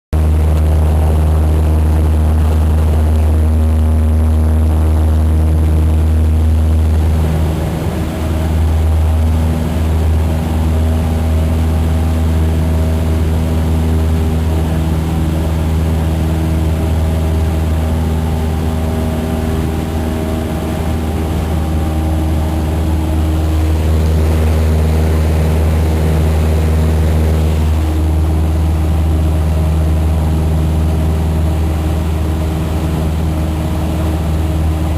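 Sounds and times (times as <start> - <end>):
airplane engine and propeller drone: 0.1 - 34.9.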